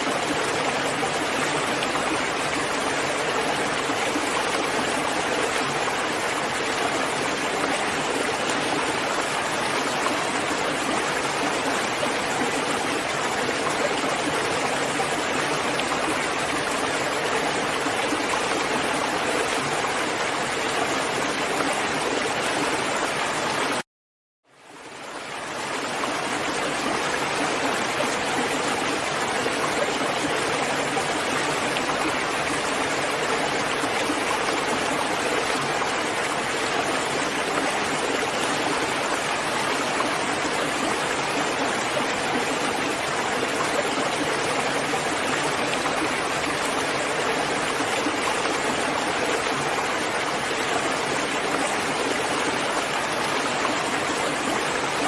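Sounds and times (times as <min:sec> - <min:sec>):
steady rain: 0:00.0 - 0:23.8, 0:24.5 - 0:55.0.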